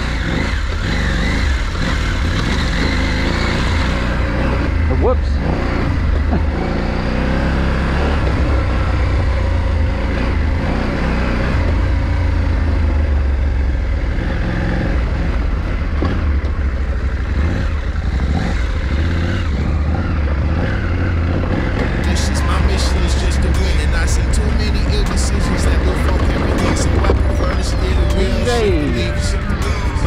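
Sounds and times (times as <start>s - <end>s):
motorcycle running on rocky dirt road: 0.0s - 30.0s.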